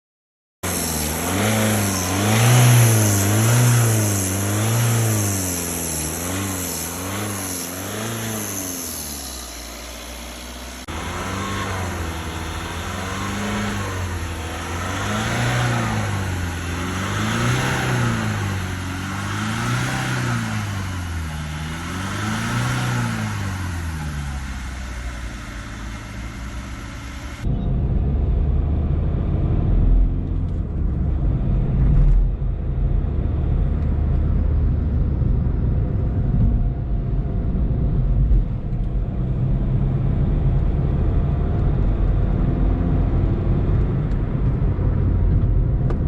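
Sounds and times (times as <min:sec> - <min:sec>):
diesel car engine revving: 0:00.6 - 0:46.0.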